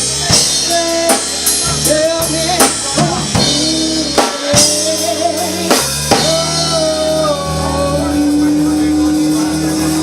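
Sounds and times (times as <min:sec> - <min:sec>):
drum kit hits: 0:00.0 - 0:10.0
steady bass: 0:00.0 - 0:10.0.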